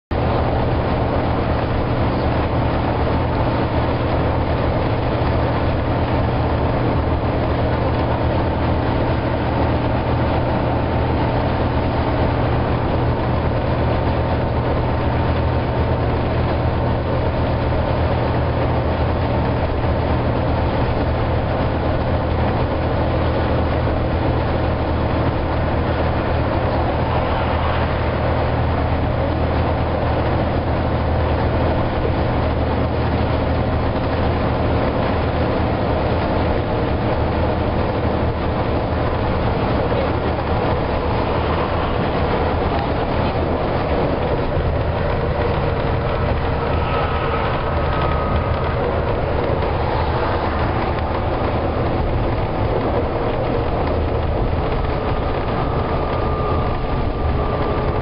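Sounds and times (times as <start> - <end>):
diesel bus engine working hard: 0.1 - 58.0
engine cooling fan whine: 0.1 - 58.0
tyre and road rumble: 0.1 - 58.0.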